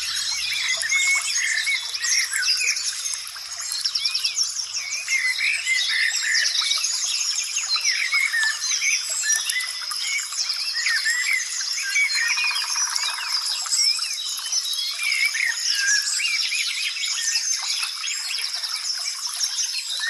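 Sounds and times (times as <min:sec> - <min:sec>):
wild birds chirping and trilling: 0:00.0 - 0:20.0.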